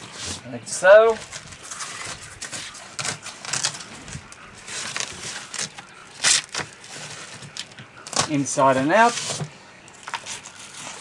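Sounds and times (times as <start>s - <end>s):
fabric rustling and scraping: 0.0s - 11.0s.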